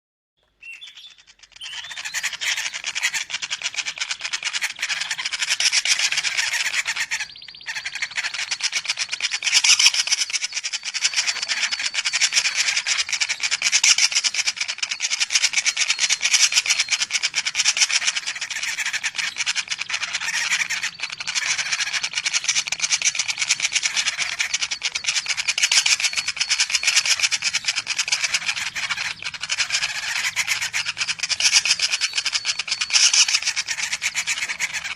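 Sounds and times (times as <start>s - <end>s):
woodpecker nestlings begging chatter: 0.4s - 34.9s.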